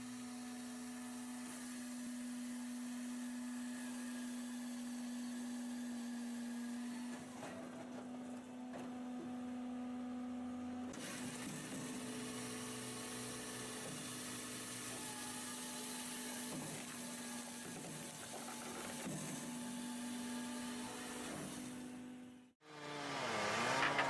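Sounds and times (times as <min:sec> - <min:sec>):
firewood processor machine hum: 0:00.0 - 0:24.0.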